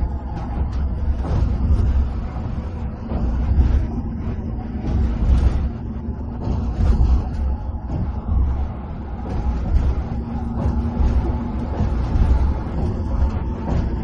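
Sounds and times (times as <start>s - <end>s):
bus engine and tyre rumble: 0.0s - 14.0s.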